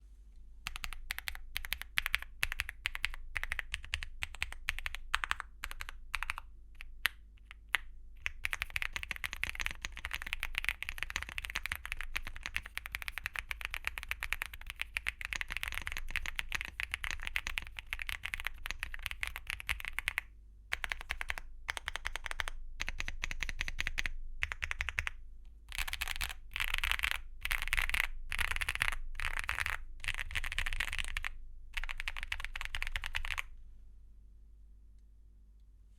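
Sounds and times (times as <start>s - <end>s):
mechanical keyboard typing: 0.7s - 33.5s.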